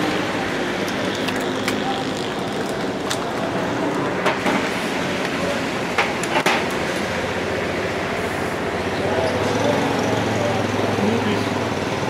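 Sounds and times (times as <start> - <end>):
steady workshop hum: 0.0 - 12.0.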